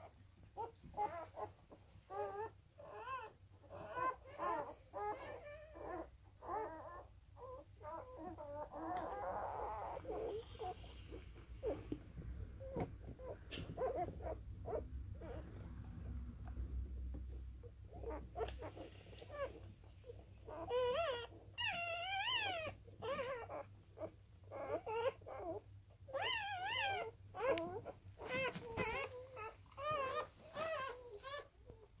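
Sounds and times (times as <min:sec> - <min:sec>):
puppies squeaking and whining: 0:00.6 - 0:32.0.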